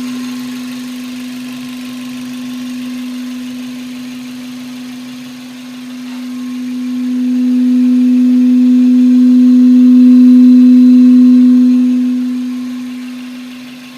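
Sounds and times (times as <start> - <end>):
engine intake droning tone: 0.0 - 13.9.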